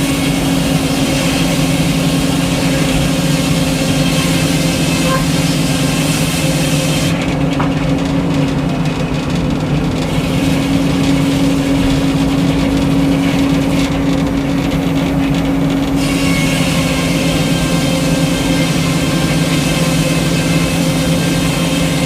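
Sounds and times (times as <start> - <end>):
sawmill engine running with hum: 0.0 - 22.0.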